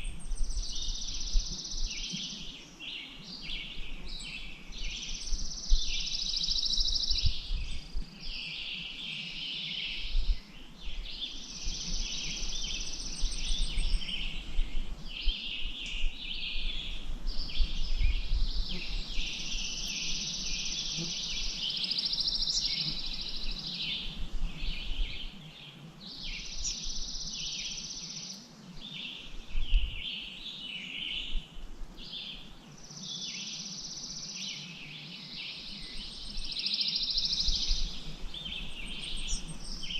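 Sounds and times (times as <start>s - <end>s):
songbirds trilling and chattering: 0.0s - 39.9s.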